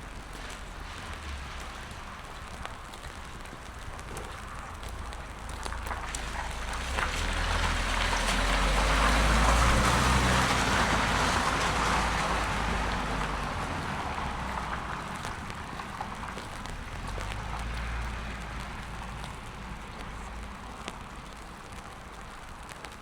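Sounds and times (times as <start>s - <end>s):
tyres hissing on wet road: 0.0s - 23.0s
car engine rumbling: 3.8s - 22.4s.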